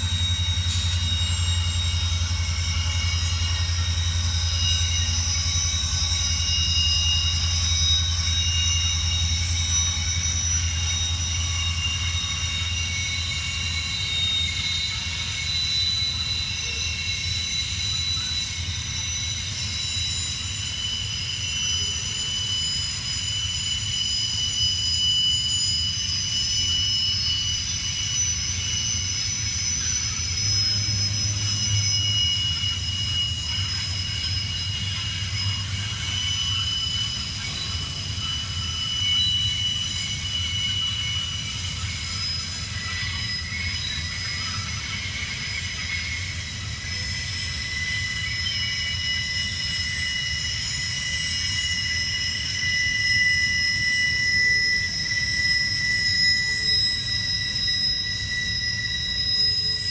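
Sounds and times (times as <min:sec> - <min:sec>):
train wheels squealing: 0:00.0 - 0:59.9.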